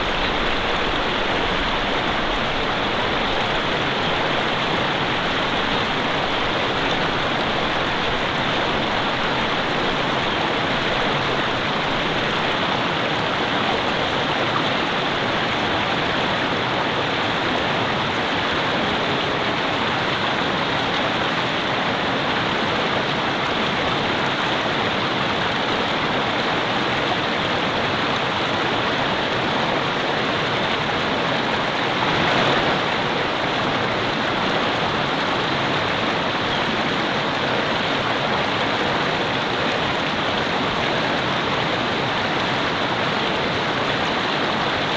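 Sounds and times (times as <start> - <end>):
river flowing over rocks: 0.0 - 44.9.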